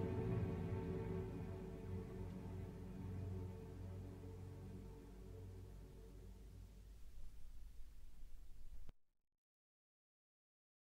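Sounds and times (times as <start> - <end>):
recording hiss and low rumble: 0.0 - 8.9.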